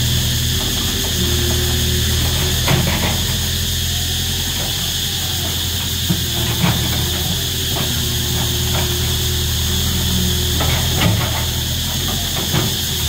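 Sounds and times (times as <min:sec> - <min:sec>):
cicadas buzzing: 0:00.0 - 0:13.0
machine engine running: 0:00.0 - 0:13.0.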